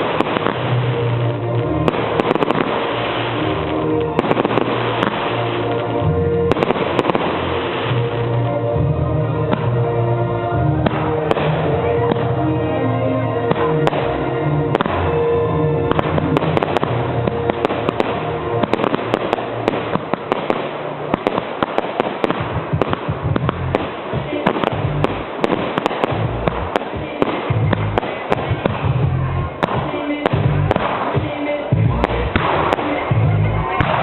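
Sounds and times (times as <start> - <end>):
fireworks bursting and crackling: 0.0 - 34.0
loud music with heavy bass: 0.0 - 34.0.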